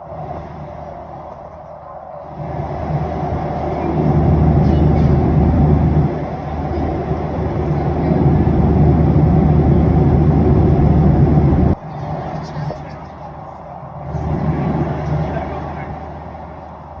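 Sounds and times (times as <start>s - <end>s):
jet engines running at high power: 0.0s - 17.0s.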